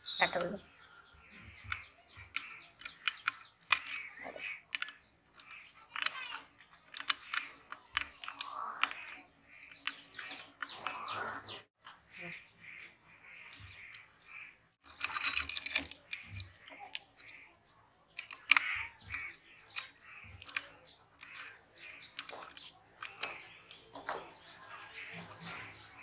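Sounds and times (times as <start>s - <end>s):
birds chirping: 0.0s - 26.0s
metal tools clicking and scraping: 1.4s - 11.2s, 14.8s - 26.0s.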